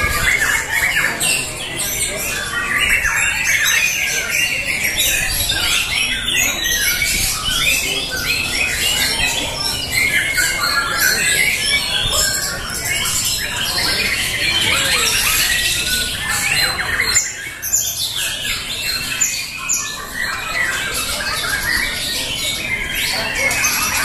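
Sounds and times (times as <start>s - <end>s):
many birds singing: 0.0s - 24.0s.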